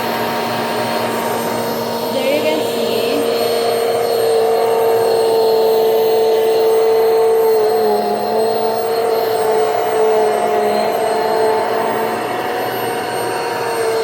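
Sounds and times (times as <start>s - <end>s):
upright vacuum running: 0.0s - 14.0s.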